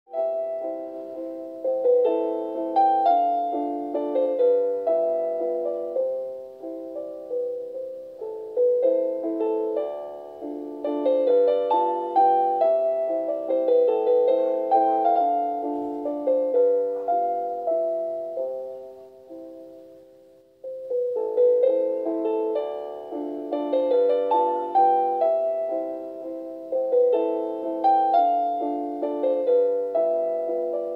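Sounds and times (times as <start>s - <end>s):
calm piano music: 0.1s - 30.9s.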